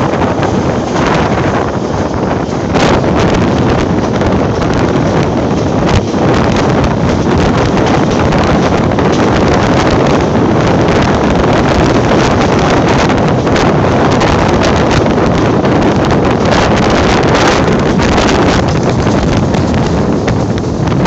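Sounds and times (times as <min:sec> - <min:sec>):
train running on track: 0:00.0 - 0:21.0
wind buffeting microphone: 0:00.0 - 0:21.0.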